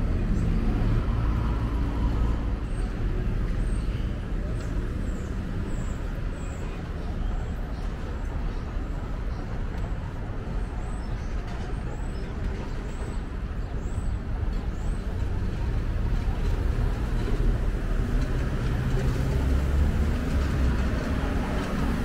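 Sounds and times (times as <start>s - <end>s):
heavy vehicle engine rumble: 0.0s - 22.0s
passing vehicles rumble: 0.0s - 22.0s.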